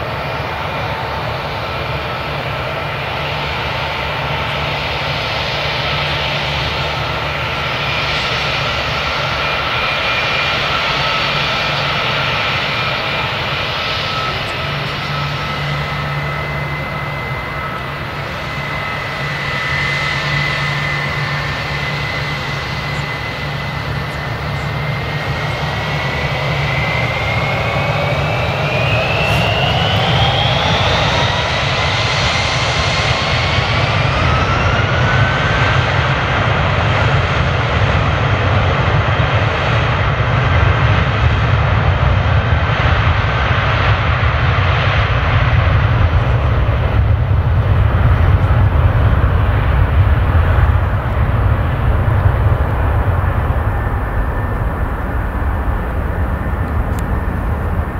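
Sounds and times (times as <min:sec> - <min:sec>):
jet engine rumble and whine: 0:00.0 - 0:57.9.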